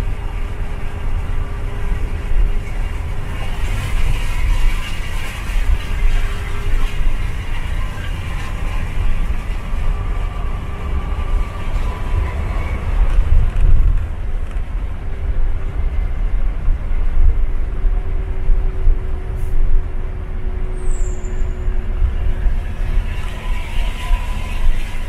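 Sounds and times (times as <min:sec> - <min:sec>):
faint droning tone: 0:00.0 - 0:25.0
low engine rumble: 0:00.0 - 0:25.0
road noise: 0:00.0 - 0:25.0.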